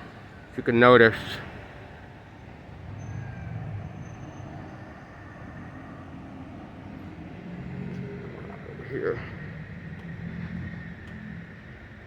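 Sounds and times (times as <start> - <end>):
distant road traffic hum: 0.0 - 12.0.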